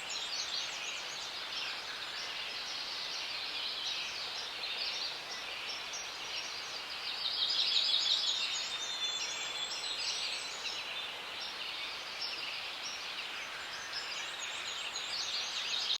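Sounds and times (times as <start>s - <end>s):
soft steady hiss: 0.0s - 16.0s.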